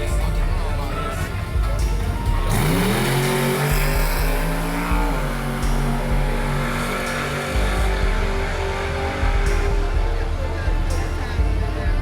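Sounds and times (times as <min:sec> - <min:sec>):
car engine revving: 0:00.0 - 0:12.0
low regular thumping: 0:00.0 - 0:12.0.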